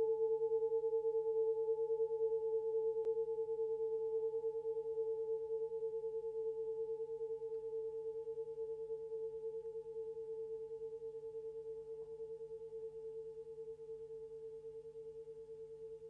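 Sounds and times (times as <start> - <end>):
sustained pulsing ringing tone: 0.0 - 16.0.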